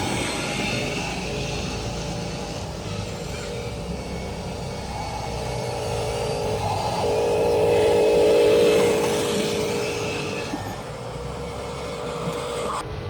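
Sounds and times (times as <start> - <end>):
electric motor and gearbox whining: 0.0 - 13.0.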